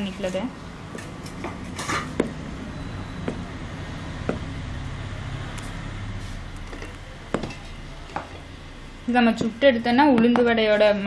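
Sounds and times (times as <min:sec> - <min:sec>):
steady low background hum: 0:00.0 - 0:11.0.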